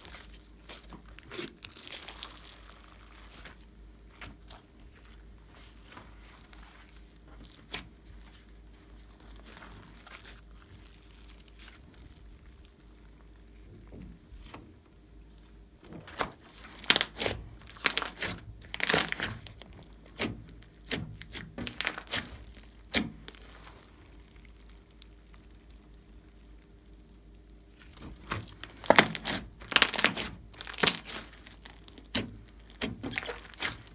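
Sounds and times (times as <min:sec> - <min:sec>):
slime crackling and popping: 0:00.0 - 0:15.4, 0:16.4 - 0:33.9.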